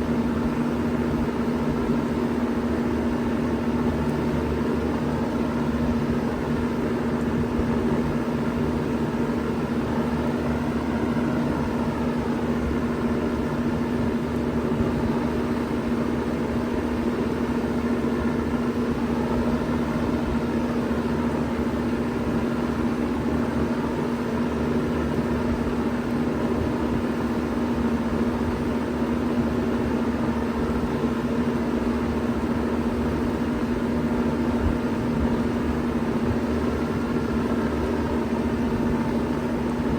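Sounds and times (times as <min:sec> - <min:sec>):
compressor hum: 0:00.0 - 0:39.9.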